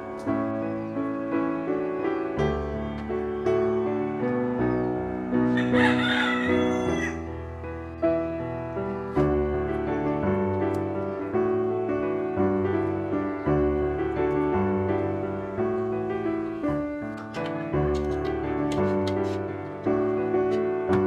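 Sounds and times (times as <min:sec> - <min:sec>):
slow piano piece: 0:00.0 - 0:21.0.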